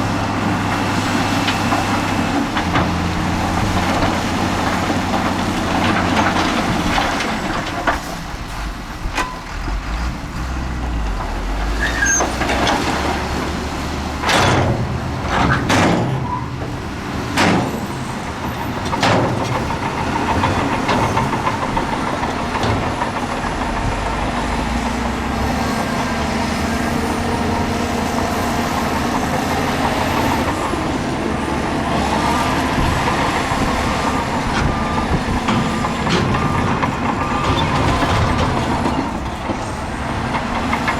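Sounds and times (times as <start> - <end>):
diesel earthmoving machinery running: 0.0 - 40.9.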